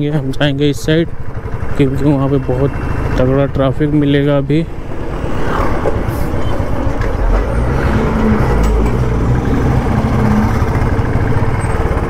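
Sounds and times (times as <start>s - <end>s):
bus engine: 0.0s - 12.0s
motorcycle engine running: 0.0s - 12.0s.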